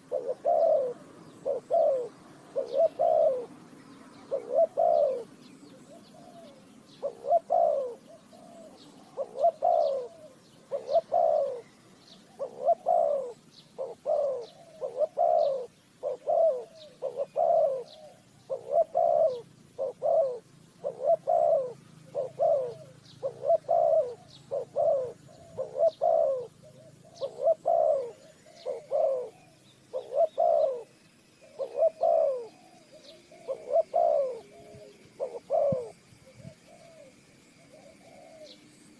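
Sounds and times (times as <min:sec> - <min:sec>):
dove cooing: 0:00.0 - 0:38.9
small birds chirping: 0:00.0 - 0:38.9.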